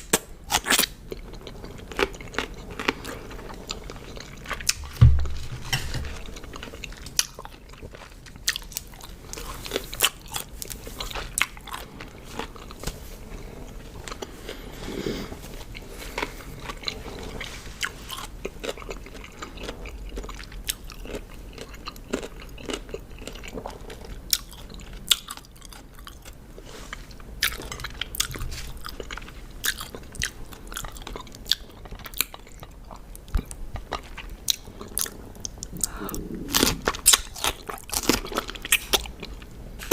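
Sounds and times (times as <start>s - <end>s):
chewing crunchy cucumber: 0.0s - 39.9s.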